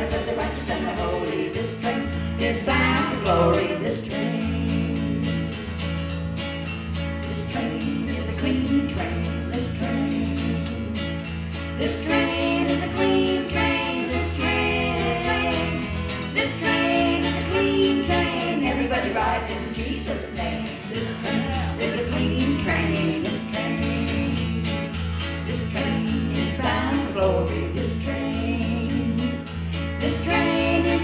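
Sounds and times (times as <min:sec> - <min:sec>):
women singing: 0:00.0 - 0:05.8, 0:07.2 - 0:31.0
electric bass guitar notes: 0:00.0 - 0:31.0
strummed acoustic guitar: 0:00.0 - 0:31.0.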